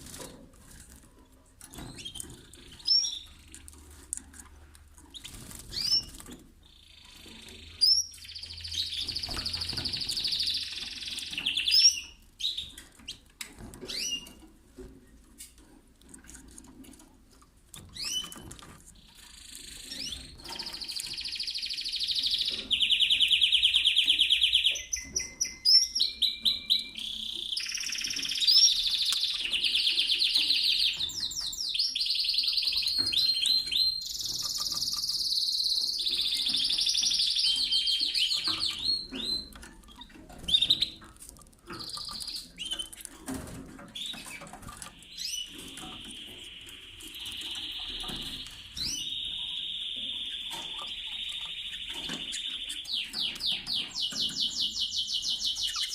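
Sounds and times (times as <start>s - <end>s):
canary singing trills: 1.6s - 14.9s, 16.2s - 55.9s.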